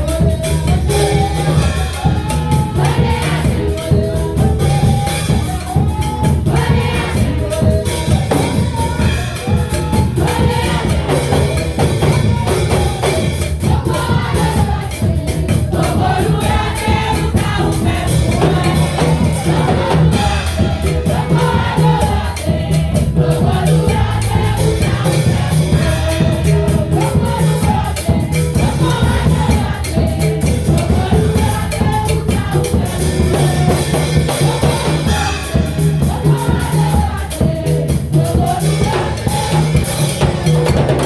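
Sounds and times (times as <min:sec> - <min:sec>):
bass: 0:00.0 - 0:41.0
drum kit: 0:00.0 - 0:41.0
gospel singing voices: 0:00.0 - 0:41.0
tambourine-like percussion: 0:00.0 - 0:41.0.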